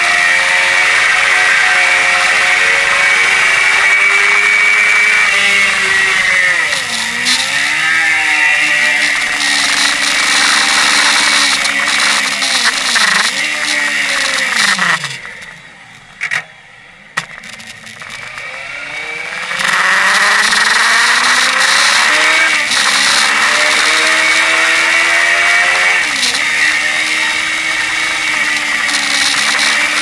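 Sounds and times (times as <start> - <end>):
motorcycle engine running hard: 0.0 - 16.4, 17.2 - 30.0.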